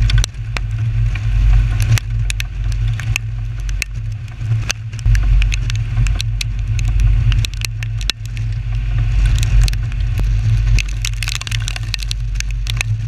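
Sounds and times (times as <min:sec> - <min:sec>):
road and wind rumble: 0:00.0 - 0:13.0.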